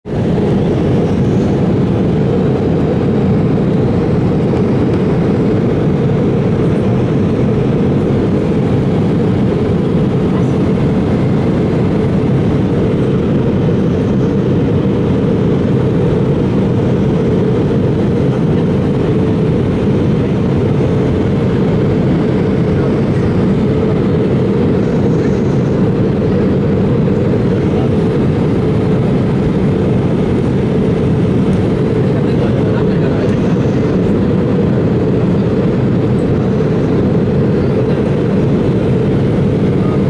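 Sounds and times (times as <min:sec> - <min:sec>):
airplane cabin noise: 0:00.1 - 0:40.0.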